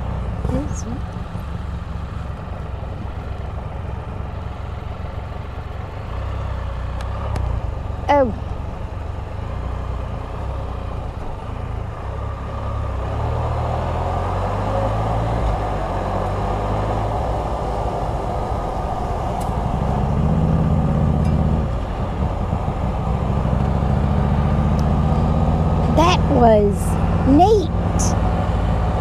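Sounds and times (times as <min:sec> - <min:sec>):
three-wheeler engine running: 0:00.0 - 0:29.0.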